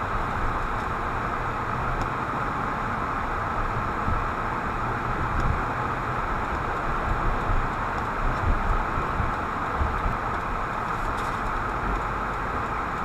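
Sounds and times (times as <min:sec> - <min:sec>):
car road noise inside cabin: 0:00.0 - 0:13.0.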